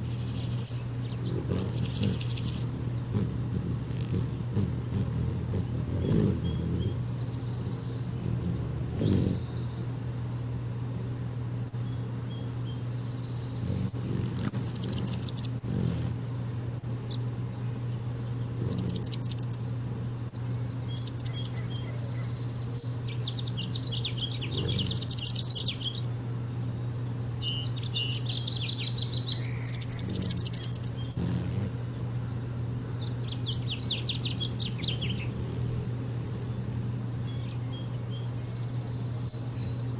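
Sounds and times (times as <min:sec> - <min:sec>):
hummingbirds chattering: 0:00.0 - 0:39.9
steady low hum: 0:00.0 - 0:39.9.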